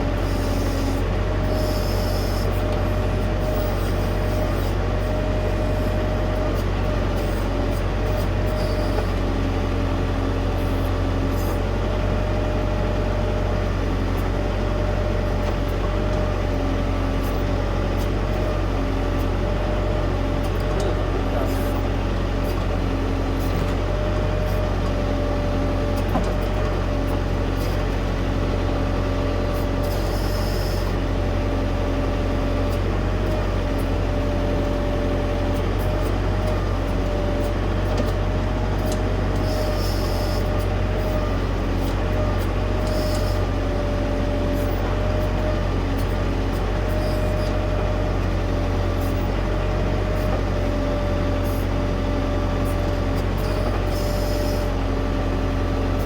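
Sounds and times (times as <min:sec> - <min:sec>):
hydraulic whine: 0:00.0 - 0:56.0
tractor diesel engine drone: 0:00.0 - 0:56.0.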